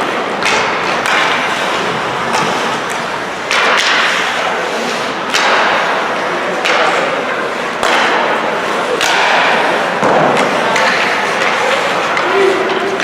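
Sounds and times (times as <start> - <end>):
hockey sticks and puck clacking: 0.0 - 13.0
skates scraping on ice: 0.0 - 13.0.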